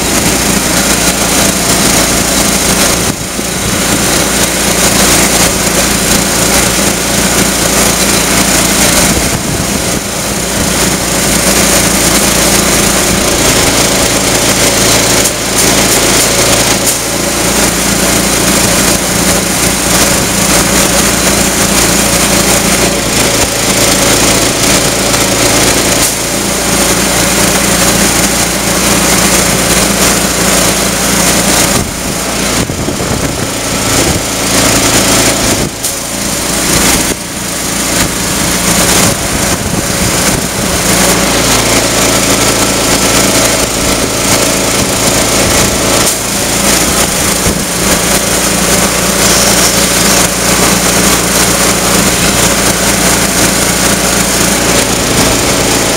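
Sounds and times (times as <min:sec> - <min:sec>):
air compressor engine running: 0:00.0 - 0:55.9
air rushing through hose: 0:00.0 - 0:55.9.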